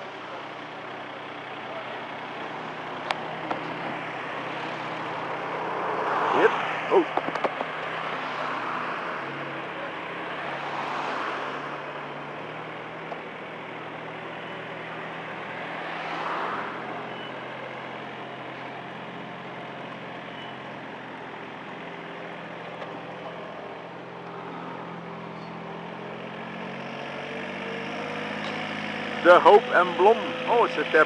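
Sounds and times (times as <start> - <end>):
heavy vehicle engine running: 0.0 - 31.0
street traffic noise: 0.0 - 31.0.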